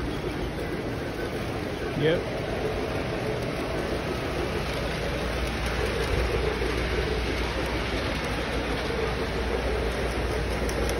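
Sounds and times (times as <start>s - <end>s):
model trains rumbling on track: 0.0s - 10.9s.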